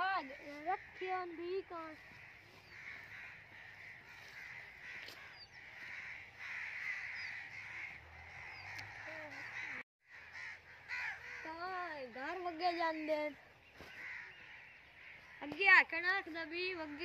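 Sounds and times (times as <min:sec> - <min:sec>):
crows cawing: 0:00.0 - 0:17.0.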